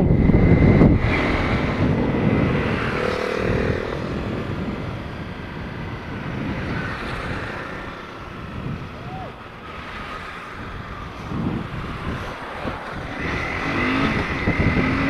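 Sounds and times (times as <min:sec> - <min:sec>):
motorcycle running: 0:00.0 - 0:15.0
wind rushing over microphone: 0:00.0 - 0:15.0.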